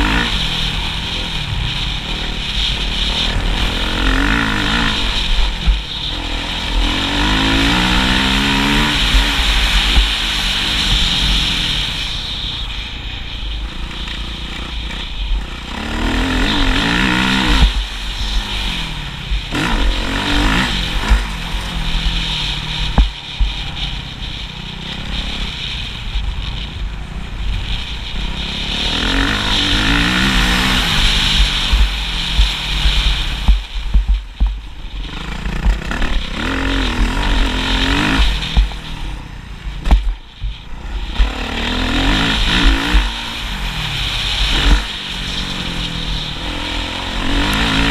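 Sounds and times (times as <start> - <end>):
constant low rumble: 0.0 - 47.9
motocross bike engine revving: 0.0 - 47.9.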